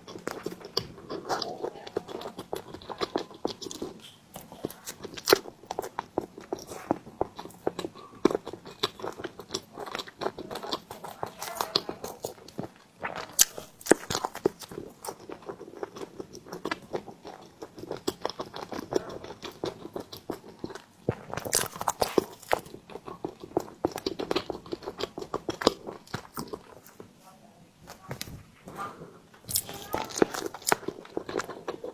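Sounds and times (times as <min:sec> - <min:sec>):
person chewing bread: 0:00.0 - 0:31.9.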